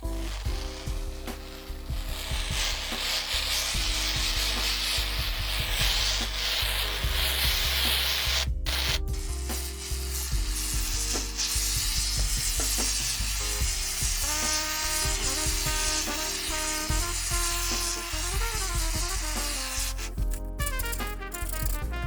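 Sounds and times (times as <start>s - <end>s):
background music: 0.0s - 22.0s
rubbing and scraping by hand: 0.0s - 22.0s.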